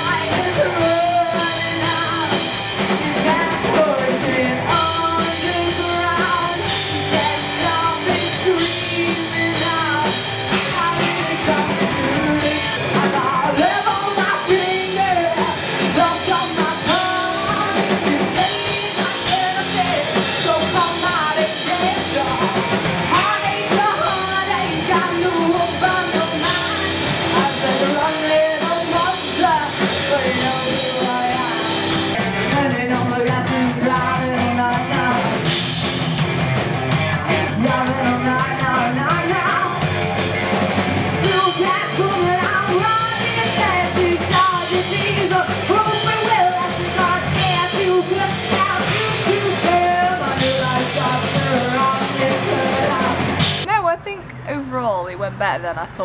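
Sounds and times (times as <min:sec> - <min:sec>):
lead vocals singing: 0:00.0 - 0:35.6, 0:36.8 - 0:53.5
electric guitar: 0:00.0 - 0:53.7
drum kit: 0:00.0 - 0:55.0
bass guitar: 0:00.0 - 0:55.8.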